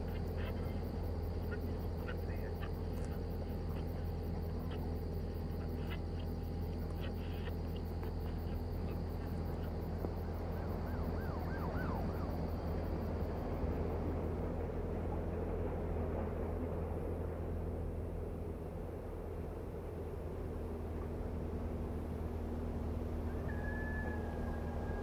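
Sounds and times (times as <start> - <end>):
car engine idling: 0.0 - 20.4.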